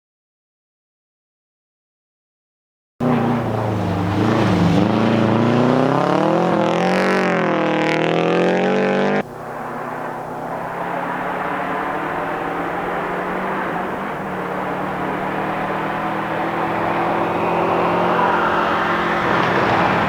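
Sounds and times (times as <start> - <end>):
rally car engine revving: 3.0 - 20.0.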